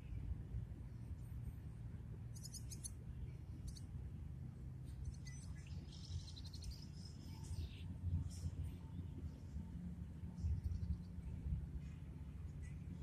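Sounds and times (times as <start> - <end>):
songbirds chirping and trilling: 0.0 - 13.0
steady low rumble: 0.0 - 13.0.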